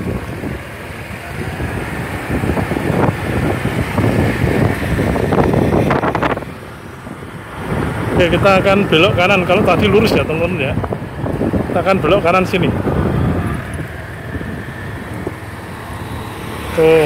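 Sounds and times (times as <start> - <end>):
wind buffeting microphone: 0.0 - 16.7
motorcycle passing: 0.0 - 17.0
vehicle engine noise: 0.0 - 17.0.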